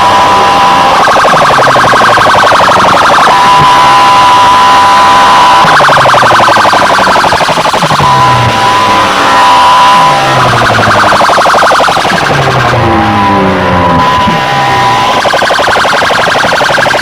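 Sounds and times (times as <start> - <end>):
electronic siren-style music: 0.0 - 17.0.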